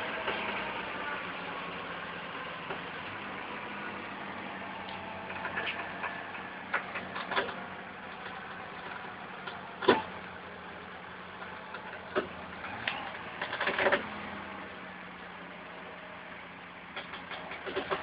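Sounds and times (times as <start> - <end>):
pickup engine idling hum: 0.0 - 18.0.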